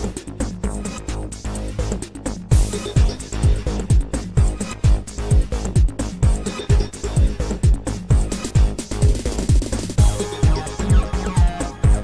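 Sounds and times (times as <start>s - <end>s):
electronic dance music: 0.0s - 12.0s
hi-hats: 0.0s - 12.0s
kick drum beat: 0.0s - 12.0s.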